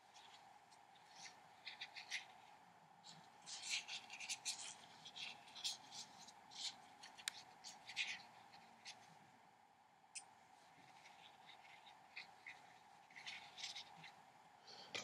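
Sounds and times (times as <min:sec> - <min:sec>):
scratchy strokes on paper: 0:00.0 - 0:09.2, 0:10.5 - 0:14.2
faint steady hum: 0:00.0 - 0:15.0.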